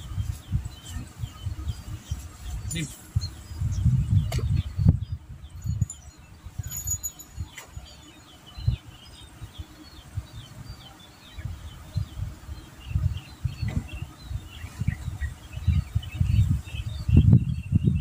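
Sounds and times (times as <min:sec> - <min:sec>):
small birds chirping: 0:00.0 - 0:18.0
wind buffeting microphone: 0:00.0 - 0:18.0.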